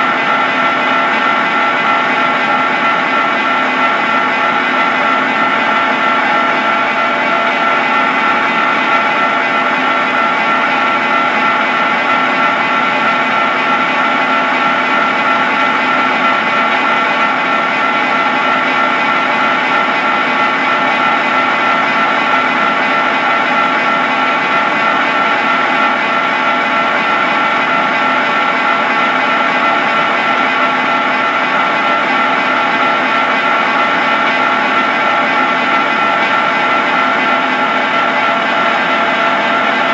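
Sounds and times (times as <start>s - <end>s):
gear hobbing machine whining: 0.0s - 39.9s.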